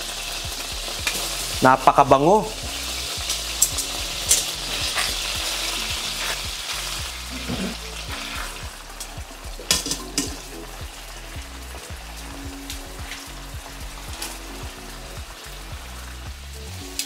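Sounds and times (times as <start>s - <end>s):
beef sizzling in skillet: 0.0s - 17.0s.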